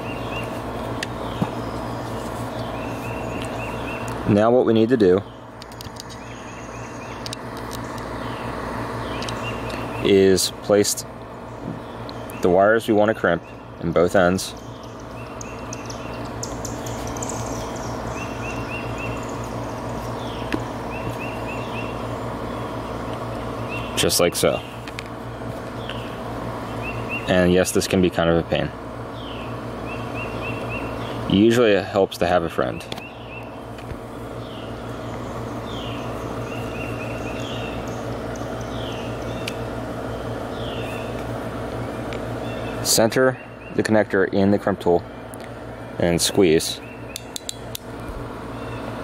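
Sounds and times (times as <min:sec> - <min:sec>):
bird chirping: 0:00.0 - 0:04.4, 0:05.0 - 0:10.5, 0:11.3 - 0:24.9, 0:25.7 - 0:27.5, 0:29.1 - 0:31.5, 0:32.6 - 0:41.2, 0:41.8 - 0:44.0, 0:46.5 - 0:49.0
steady low hum: 0:00.0 - 0:49.0.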